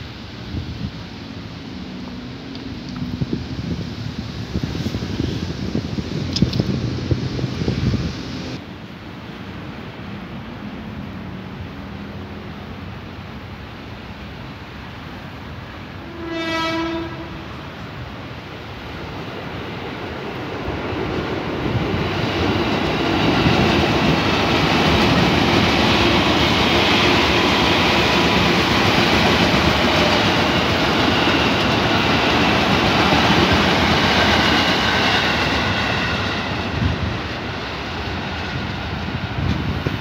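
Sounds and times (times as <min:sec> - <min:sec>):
train wheels on rails: 0:00.0 - 0:40.0.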